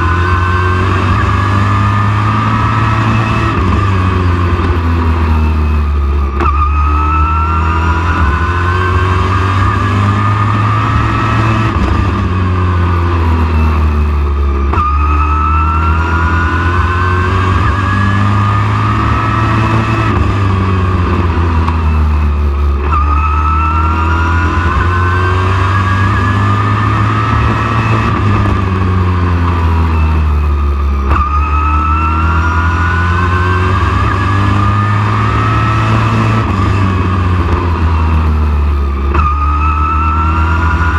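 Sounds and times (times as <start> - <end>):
race truck engine revving: 0.0 - 40.9.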